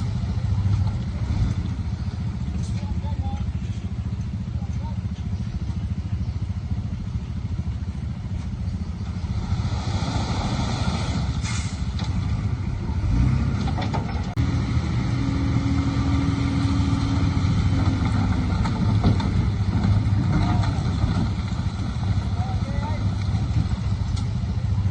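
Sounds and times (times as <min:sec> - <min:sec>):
heavy diesel engine rumbling: 0:00.0 - 0:24.9.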